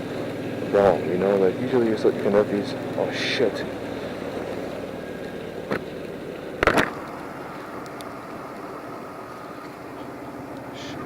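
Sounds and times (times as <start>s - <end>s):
motorcycle engine: 0.0s - 11.0s
tyres on wet road: 0.0s - 11.0s
wind: 0.0s - 11.0s.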